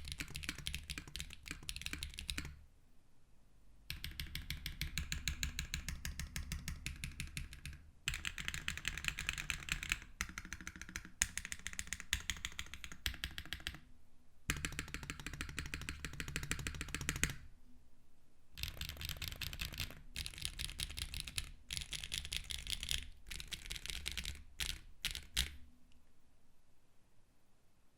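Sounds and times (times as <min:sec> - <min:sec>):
fast typing on mechanical keyboard: 0:00.0 - 0:02.6, 0:03.9 - 0:13.8, 0:14.5 - 0:17.4, 0:18.6 - 0:25.6.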